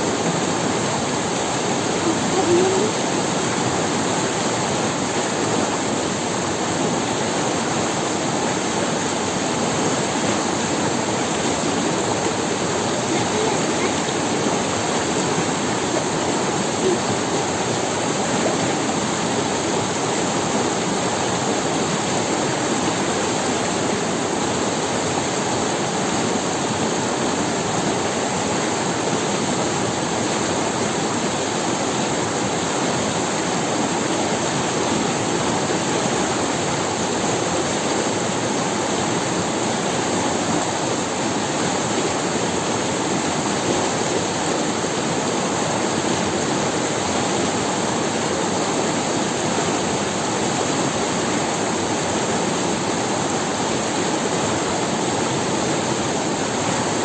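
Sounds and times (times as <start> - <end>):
river flowing over stones: 0.0 - 57.0.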